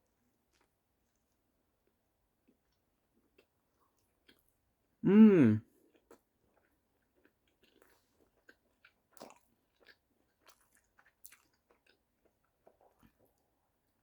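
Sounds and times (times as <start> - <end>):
person chewing food: 0.5 - 1.3, 2.4 - 4.5, 5.2 - 13.5.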